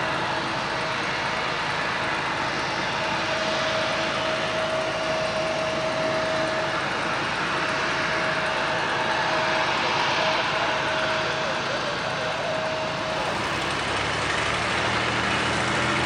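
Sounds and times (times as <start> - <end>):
jet engines at taxi power: 0.0 - 16.0.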